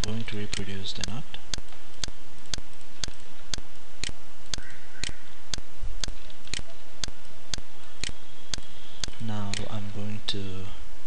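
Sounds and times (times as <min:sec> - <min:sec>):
regular ticking: 0:00.0 - 0:10.2
constant hiss: 0:00.0 - 0:11.0.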